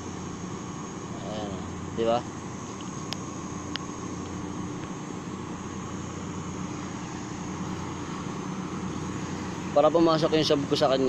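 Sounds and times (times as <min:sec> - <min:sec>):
faint constant hum: 0:00.0 - 0:11.0
low background drone: 0:00.0 - 0:11.0.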